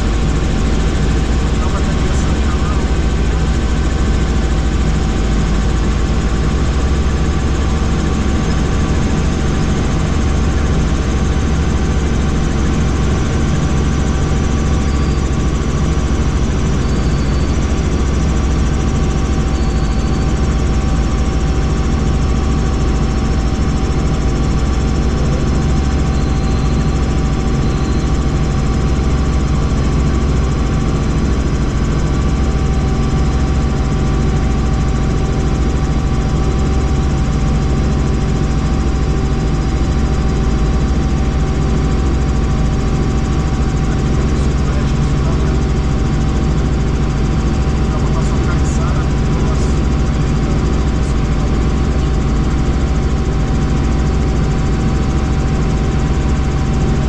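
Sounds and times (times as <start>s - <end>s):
helicopter rotor drone: 0.0s - 57.0s.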